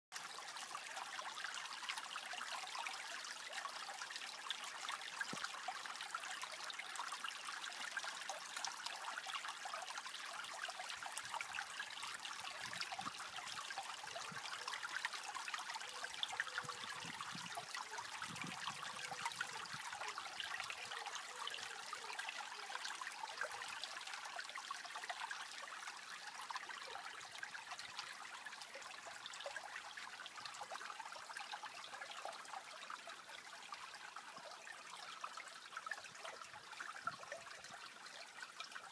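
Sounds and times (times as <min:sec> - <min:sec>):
stream trickling over stones: 0:00.1 - 0:38.9.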